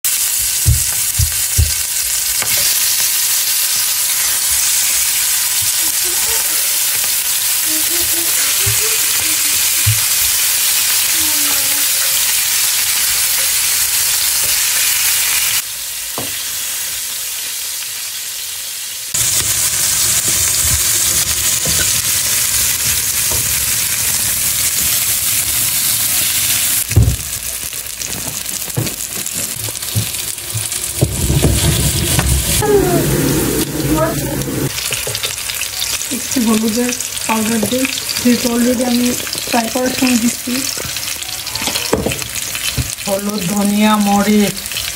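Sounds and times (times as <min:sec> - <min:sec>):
food sizzling in hot oil: 0:00.0 - 0:44.9.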